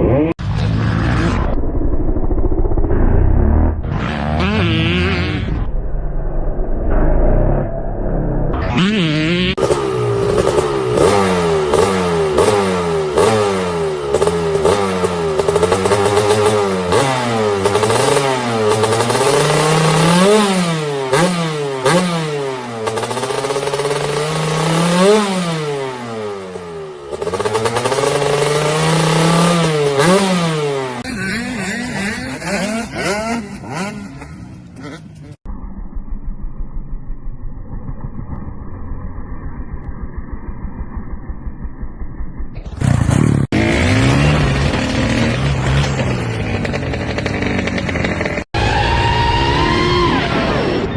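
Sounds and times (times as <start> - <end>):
motorcycle engines revving: 0.0 - 5.7, 8.6 - 35.4, 42.0 - 50.9.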